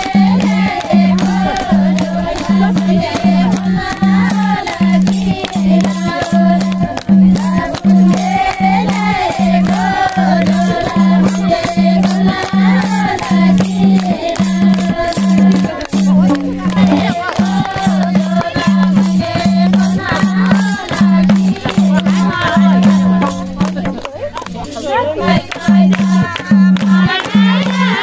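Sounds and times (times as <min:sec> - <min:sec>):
low drum beat: 0:00.0 - 0:24.6.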